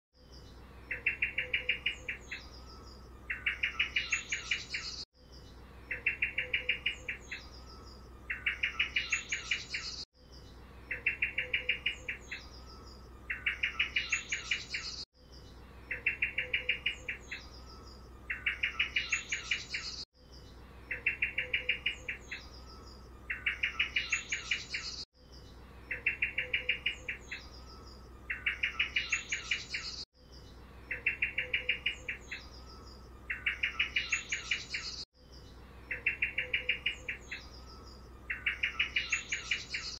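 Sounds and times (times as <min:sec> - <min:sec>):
songbird trilling and chirping: 0:00.2 - 0:39.9.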